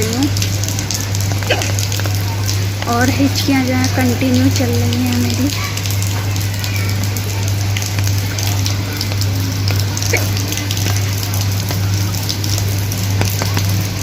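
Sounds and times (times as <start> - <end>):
constant low hum: 0.0 - 14.0
rain pattering on an umbrella: 0.0 - 14.0.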